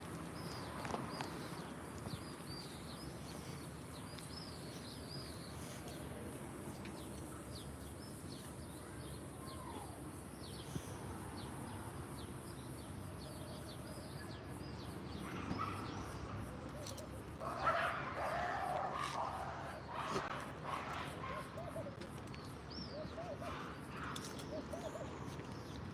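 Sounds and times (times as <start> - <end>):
low outdoor background noise: 0.0 - 25.9
small birds chirping: 0.0 - 25.9.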